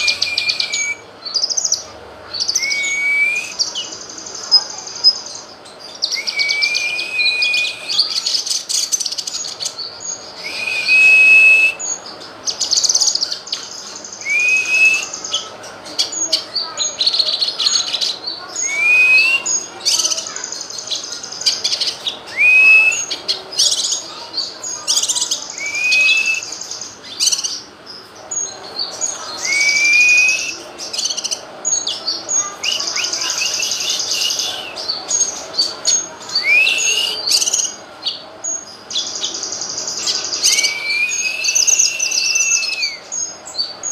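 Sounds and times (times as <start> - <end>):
bird singing: 0.0 - 43.9.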